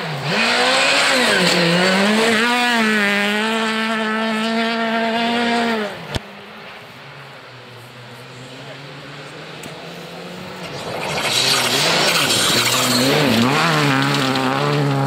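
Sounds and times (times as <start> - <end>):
rally car engine at high revs: 0.0 - 6.2, 8.0 - 15.0.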